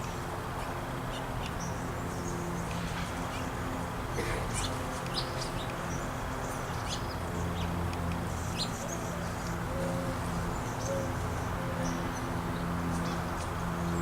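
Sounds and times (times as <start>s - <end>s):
low background hum: 0.0s - 14.0s
songbirds chirping: 0.0s - 14.0s.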